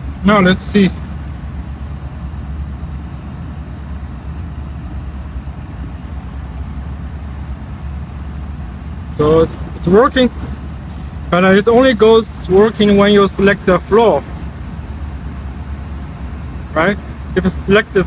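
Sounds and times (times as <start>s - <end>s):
car climate blower rushing air: 0.0s - 18.0s.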